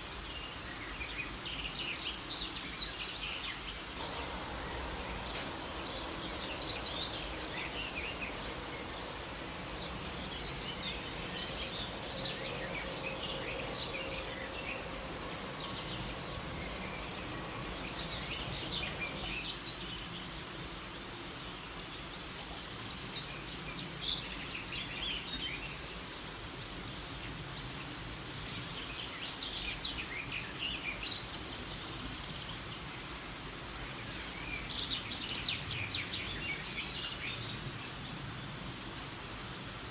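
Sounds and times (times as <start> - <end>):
insects buzzing trill: 0.0 - 39.9
steady background hiss: 0.0 - 39.9.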